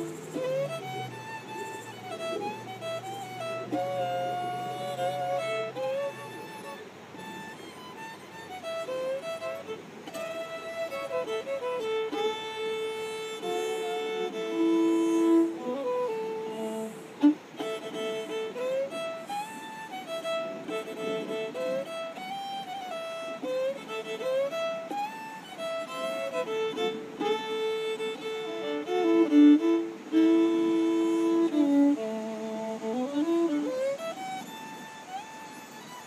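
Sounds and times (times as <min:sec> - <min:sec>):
fiddle playing slow melody: 0:00.0 - 0:36.0.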